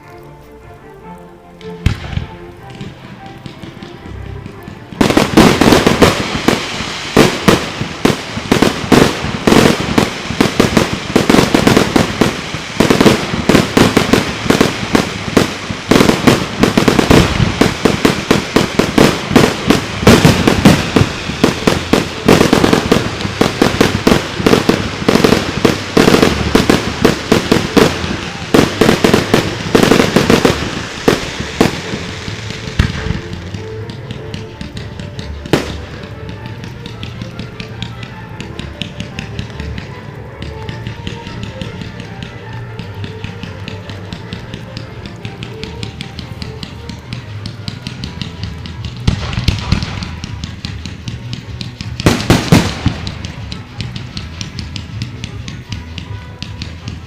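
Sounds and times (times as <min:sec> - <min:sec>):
fireworks bangs and crackles: 0:01.6 - 0:57.0.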